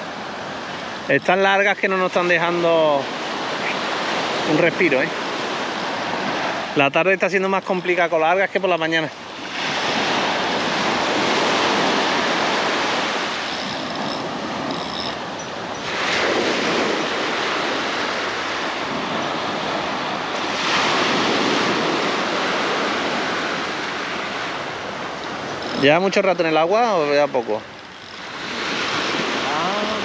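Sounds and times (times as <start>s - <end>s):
small waves breaking on shore: 0.0s - 30.0s.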